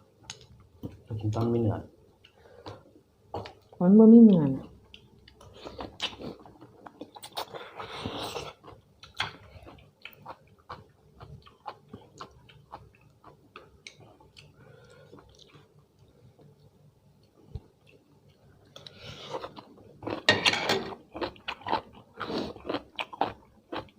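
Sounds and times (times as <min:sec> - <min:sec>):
person chewing food: 0:02.2 - 0:03.8, 0:04.8 - 0:23.9.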